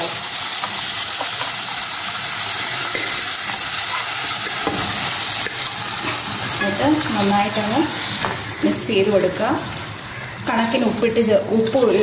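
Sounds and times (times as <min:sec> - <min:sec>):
masala sizzling in oil: 0:00.0 - 0:12.0.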